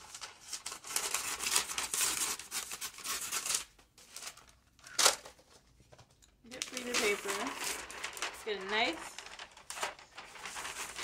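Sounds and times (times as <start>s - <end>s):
sharp paper crackle: 0.0s - 5.7s, 6.5s - 11.0s
paper crinkling and rustling: 0.0s - 11.0s.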